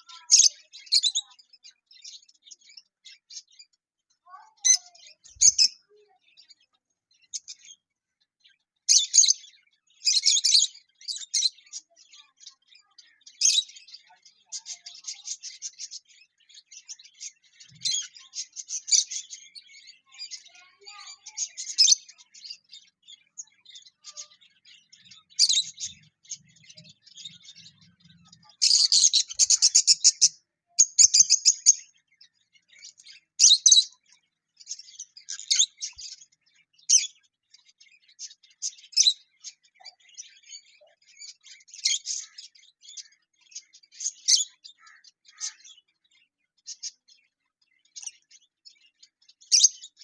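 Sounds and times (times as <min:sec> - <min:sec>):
lovebirds chirping: 0:00.0 - 0:50.0.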